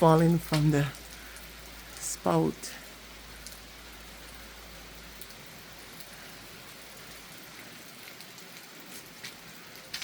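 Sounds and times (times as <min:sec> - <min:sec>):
steady rain falling: 0:00.0 - 0:10.0
water drips: 0:00.0 - 0:10.0
water running off roof spout: 0:00.0 - 0:10.0.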